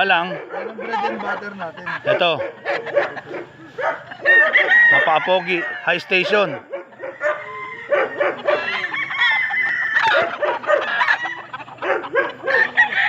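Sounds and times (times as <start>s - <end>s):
roosters crowing and clucking: 0.0s - 13.0s.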